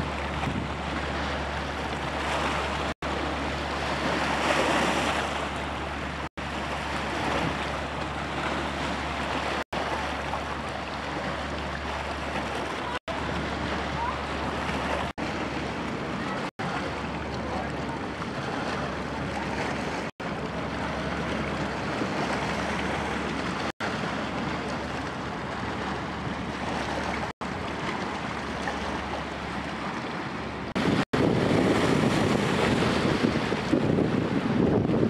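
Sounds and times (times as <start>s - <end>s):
small waves washing over rocks: 0.0s - 35.0s
wind on microphone: 0.0s - 35.0s.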